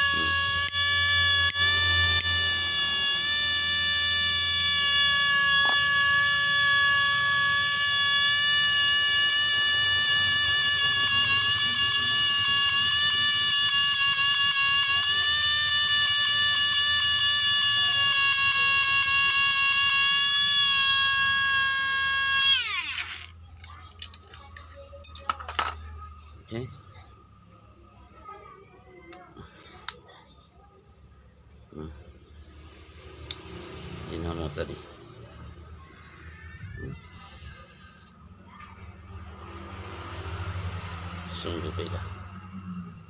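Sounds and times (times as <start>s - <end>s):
small electric motor whining: 0.0s - 24.9s, 29.1s - 43.0s.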